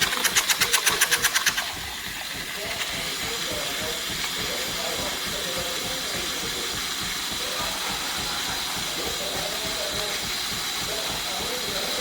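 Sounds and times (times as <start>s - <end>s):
milk frother steam hissing: 0.0s - 12.0s.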